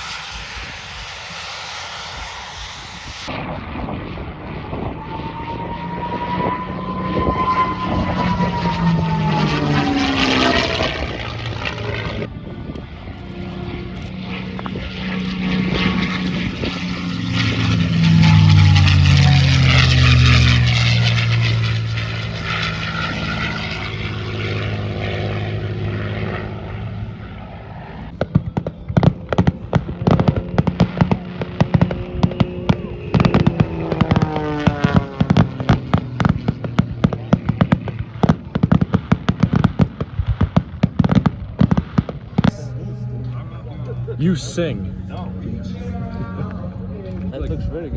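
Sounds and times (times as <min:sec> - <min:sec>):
aircraft engine passing by: 0:00.0 - 0:47.9.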